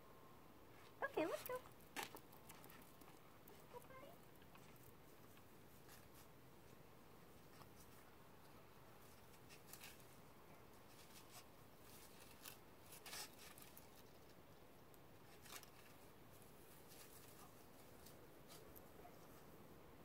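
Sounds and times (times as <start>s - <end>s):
soft scratchy rustles: 0.7s - 19.8s.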